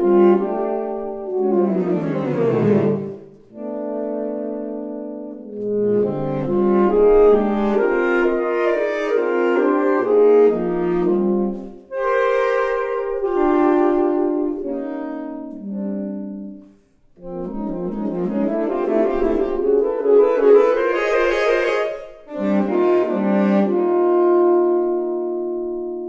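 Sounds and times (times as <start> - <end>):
saxophone trio playing: 0.0 - 26.0.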